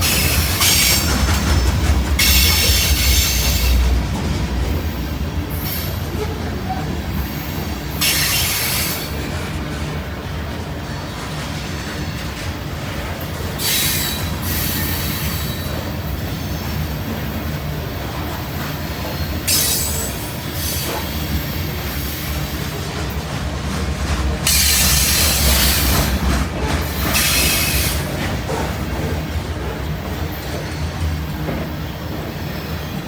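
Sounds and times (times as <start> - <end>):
wheels squealing against rails: 0.0 - 10.1, 10.8 - 23.0, 24.4 - 33.0
freight train rumbling past: 0.0 - 33.0.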